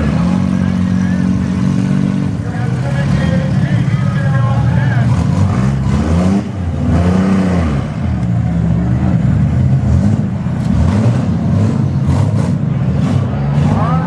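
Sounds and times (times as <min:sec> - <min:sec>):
van engines revving: 0:00.0 - 0:14.0.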